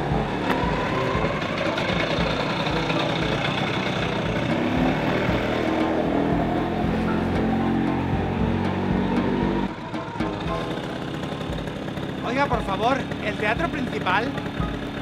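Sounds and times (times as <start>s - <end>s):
scooter two-stroke engine passing: 0.0s - 15.0s.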